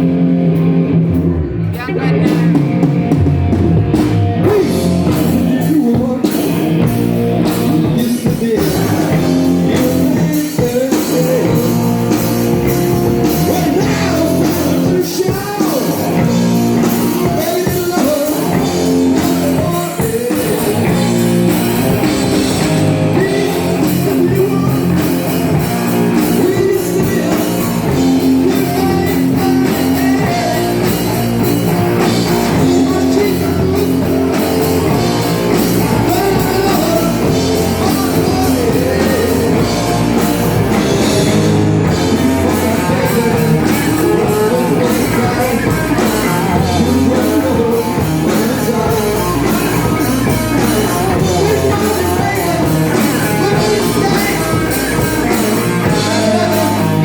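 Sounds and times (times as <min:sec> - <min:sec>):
drums: 0:00.0 - 0:57.0
electric guitar: 0:00.0 - 0:57.0
person singing: 0:04.2 - 0:57.0.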